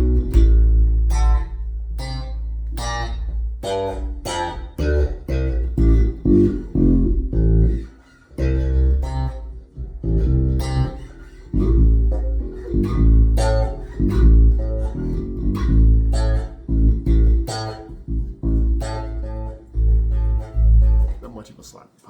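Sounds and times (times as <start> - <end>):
slap bass guitar: 0.0 - 21.2.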